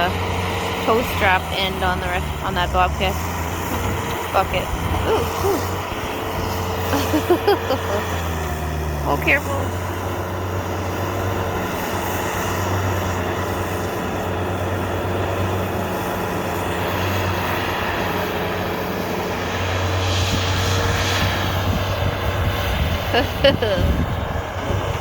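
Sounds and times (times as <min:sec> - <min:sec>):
loader engine running: 0:00.0 - 0:25.0.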